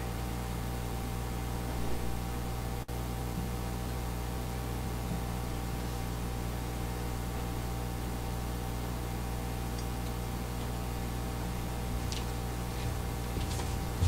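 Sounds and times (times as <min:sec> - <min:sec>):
hiss and electrical hum: 0:00.0 - 0:14.0.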